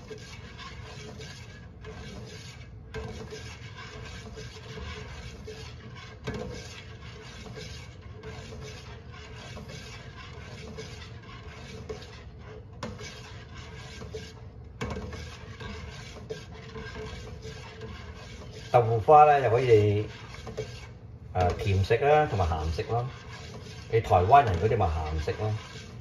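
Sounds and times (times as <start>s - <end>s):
metal spoon scraping a pot: 0.0s - 26.0s.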